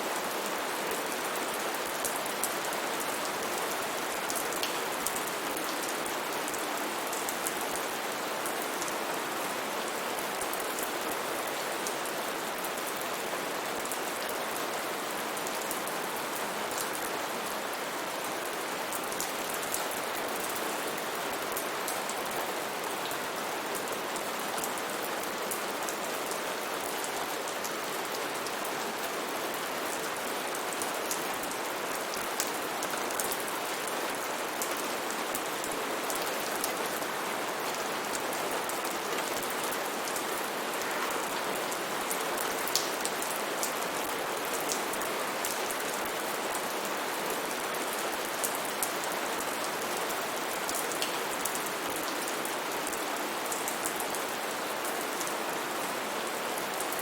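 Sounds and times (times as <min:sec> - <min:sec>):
rain pattering on a surface: 0:00.1 - 0:57.0.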